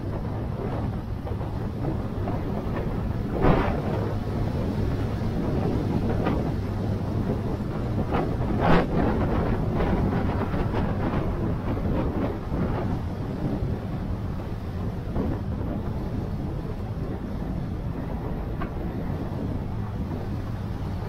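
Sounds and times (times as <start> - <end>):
motorcycle engine and road rumble: 0.0 - 21.0
wind rushing over microphone: 0.0 - 21.0.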